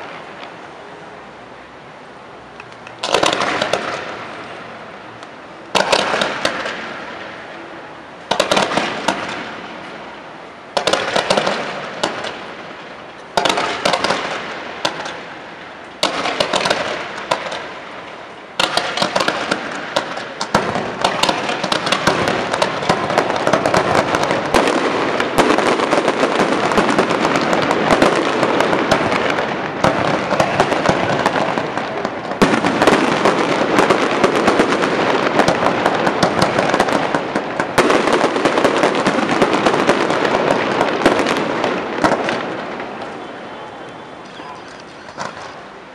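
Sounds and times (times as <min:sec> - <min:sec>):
dense crackle of rapid pops: 0:02.6 - 0:04.3, 0:05.2 - 0:07.2, 0:08.3 - 0:45.6
fireworks shells exploding: 0:02.6 - 0:04.8, 0:05.7 - 0:07.5, 0:08.2 - 0:45.9.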